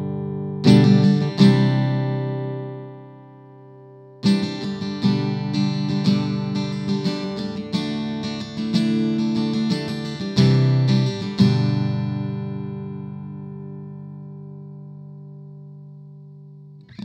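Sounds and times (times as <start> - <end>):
amplified acoustic guitar: 0.0 - 17.0.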